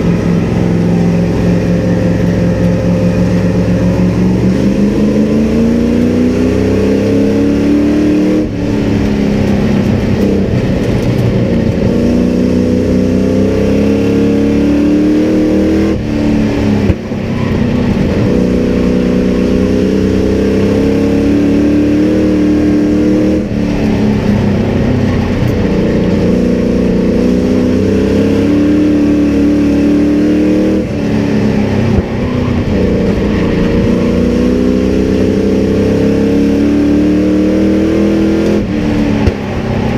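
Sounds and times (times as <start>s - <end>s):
race engine revving: 0.0s - 39.9s.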